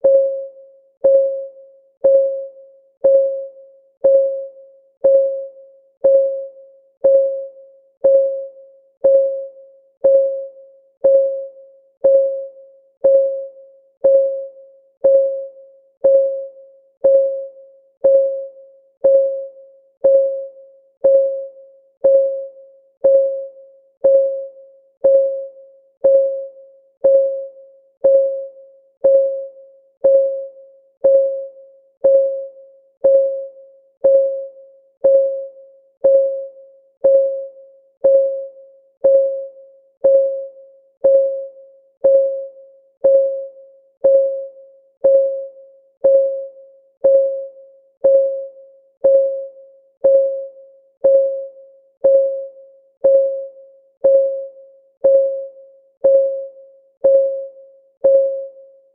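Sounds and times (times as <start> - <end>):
synthetic clock ticks: 1.0 - 58.6.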